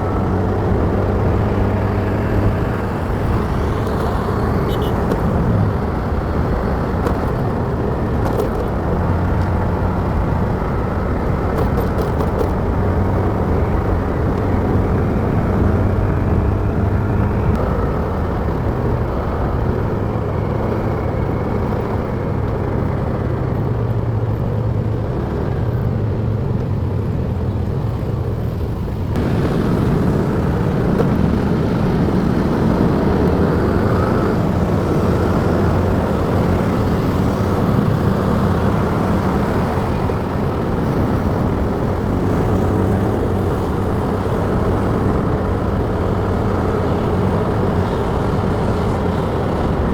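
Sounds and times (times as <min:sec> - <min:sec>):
motorcycle engine hum: 0:00.0 - 0:49.9
road noise: 0:00.0 - 0:49.9.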